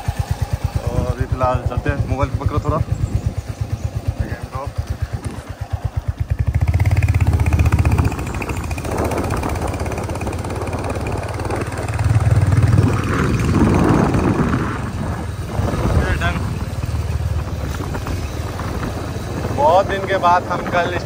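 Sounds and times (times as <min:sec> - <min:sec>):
motorcycle engine pulling away: 0:00.0 - 0:21.0.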